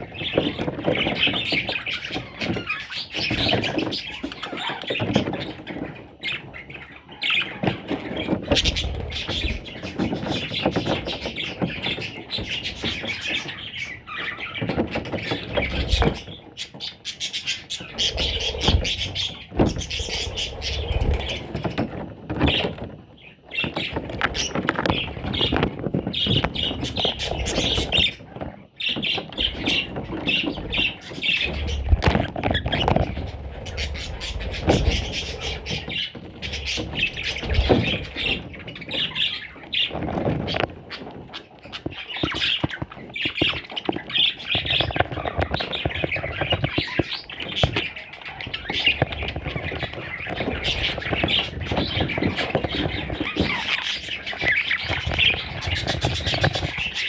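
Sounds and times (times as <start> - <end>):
budgerigar chicks squawking: 0.0 - 57.0.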